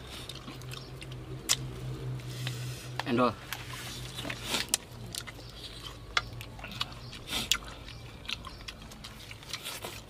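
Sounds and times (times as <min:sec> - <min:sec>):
people chewing meat: 0:00.0 - 0:10.0
sharp mouth clicks and smacks: 0:00.2 - 0:01.8, 0:02.4 - 0:10.0.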